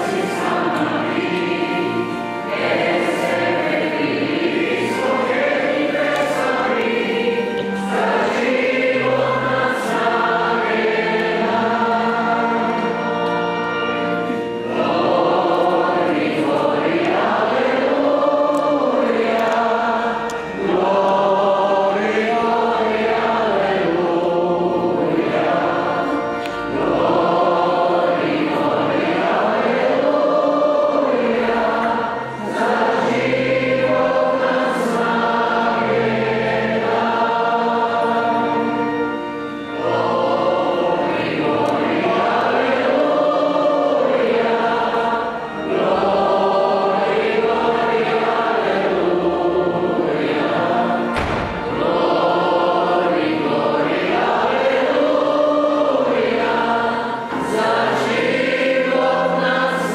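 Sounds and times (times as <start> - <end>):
group singing a hymn: 0.0 - 59.9.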